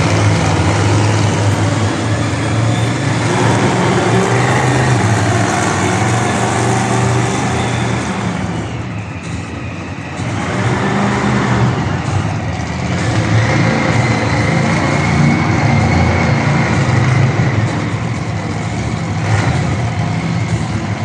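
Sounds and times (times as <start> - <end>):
monster truck engine rumbling: 0.0 - 21.0.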